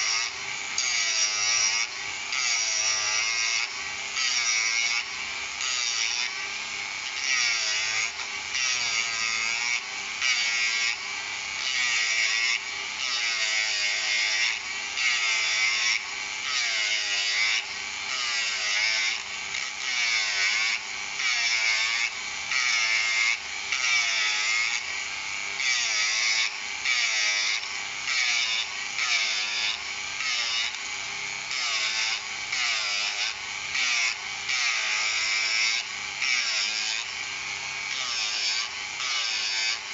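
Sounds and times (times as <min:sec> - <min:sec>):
rotary tool motor whine: 0:00.0 - 0:39.9.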